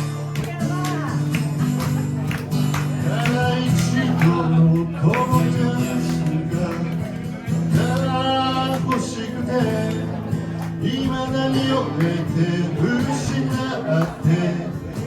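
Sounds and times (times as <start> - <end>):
acoustic guitar strumming: 0.0 - 15.0
man singing: 2.9 - 15.0.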